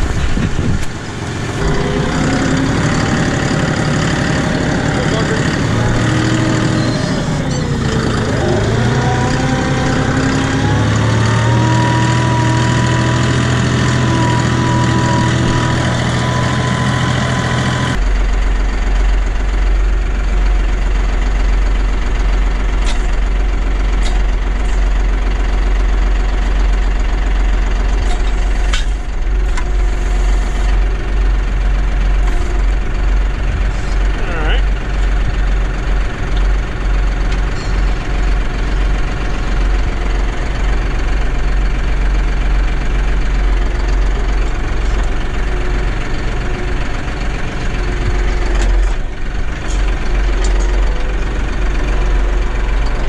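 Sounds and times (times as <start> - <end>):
low engine rumble: 0.0 - 53.0
tractor engine whining: 0.0 - 53.0.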